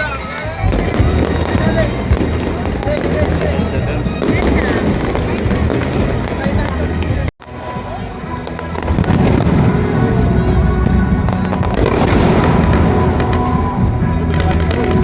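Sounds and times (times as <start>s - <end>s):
firecrackers crackling: 0.0s - 15.0s
music playing: 0.0s - 15.0s.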